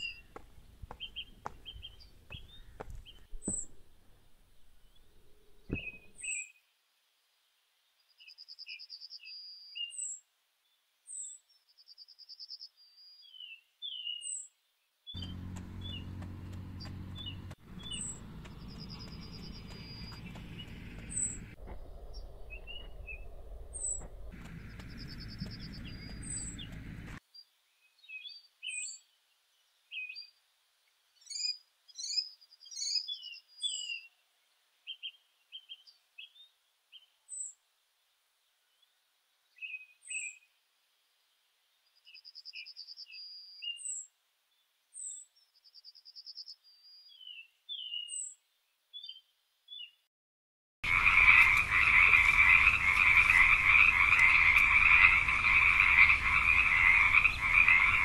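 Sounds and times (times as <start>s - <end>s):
small birds chirping and trilling: 0.0s - 6.7s, 7.9s - 37.6s, 38.5s - 40.5s, 41.7s - 50.0s, 50.8s - 58.0s.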